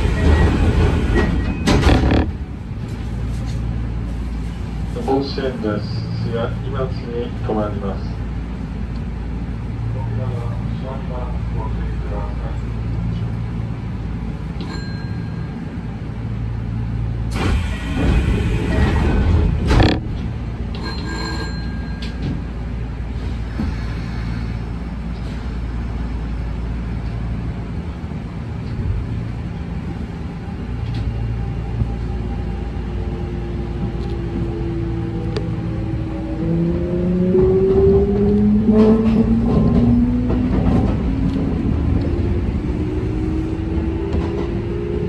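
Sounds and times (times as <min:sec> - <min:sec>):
rushing train passage: 0:00.0 - 0:45.0
train wheels and motors humming: 0:00.0 - 0:45.0.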